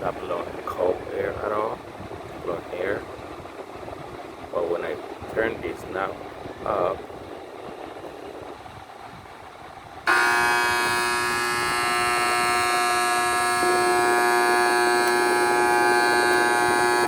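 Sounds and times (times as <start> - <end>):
air conditioner blower running: 0.0 - 17.0
air conditioner buzzing: 0.0 - 17.0.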